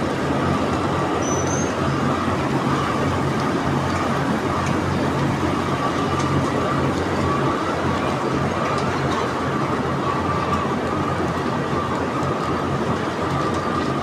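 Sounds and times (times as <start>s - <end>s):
machinery high whine: 0.0s - 14.0s
machinery low hum: 0.0s - 14.0s.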